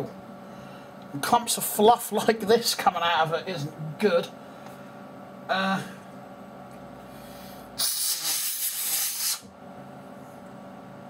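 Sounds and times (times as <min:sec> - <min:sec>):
air hissing through fan vent: 0:00.0 - 0:11.0.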